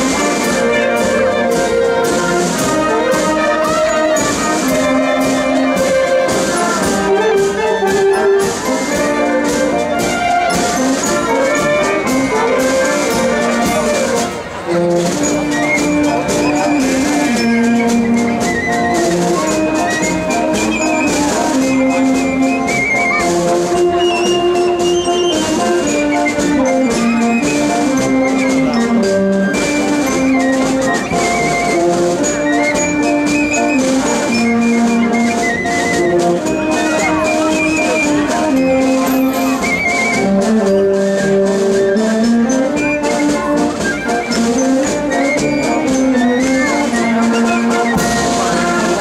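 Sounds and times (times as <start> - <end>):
brass band with drums: 0.0 - 49.0.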